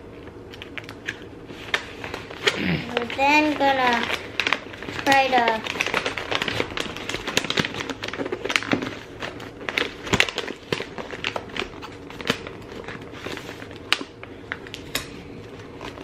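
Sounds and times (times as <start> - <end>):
paper rustling and crinkling: 0.6 - 16.0.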